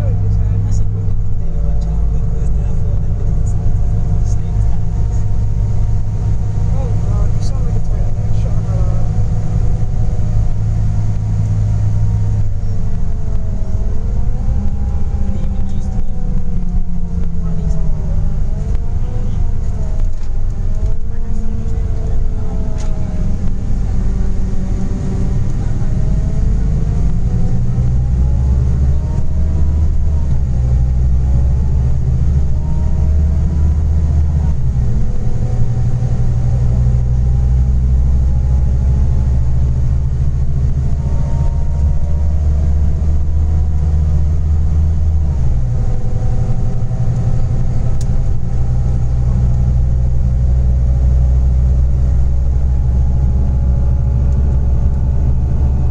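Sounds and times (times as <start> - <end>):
coach engine accelerating: 0.0 - 55.9.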